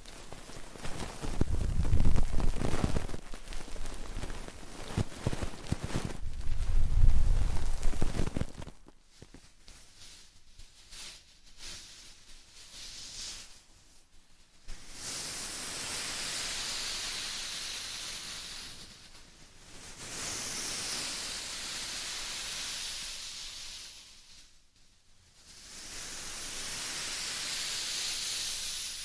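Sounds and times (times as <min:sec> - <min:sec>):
soft white noise hiss: 0:00.0 - 0:29.0.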